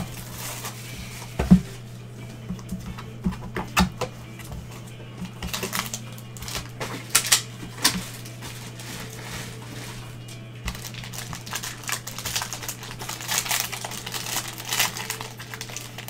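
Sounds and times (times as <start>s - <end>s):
foil pack rustling: 0.0s - 16.0s
low electrical hum: 0.0s - 16.0s.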